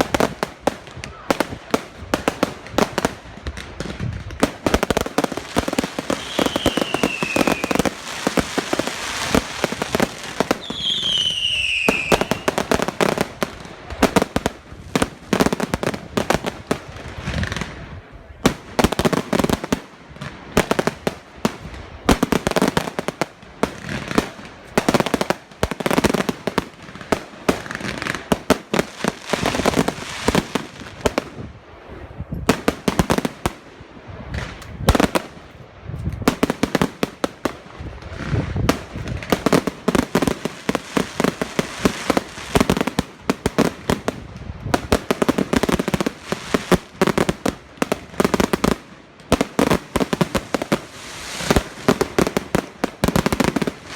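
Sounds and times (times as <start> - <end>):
fireworks banging: 0.0 - 31.5, 32.4 - 53.9.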